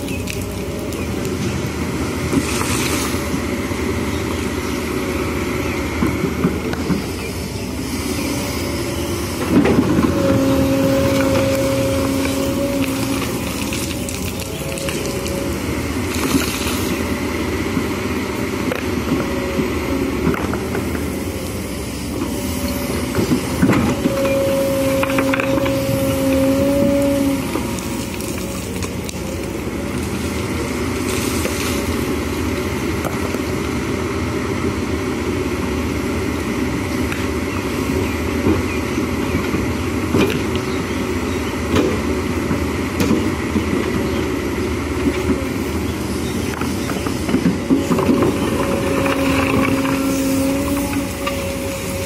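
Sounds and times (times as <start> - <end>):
excavator engine running: 0.0 - 52.0.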